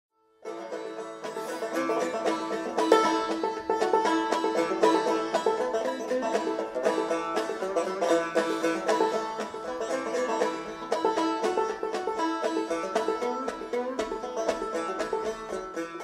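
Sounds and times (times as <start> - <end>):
fast picked banjo tune: 0.4 - 16.0.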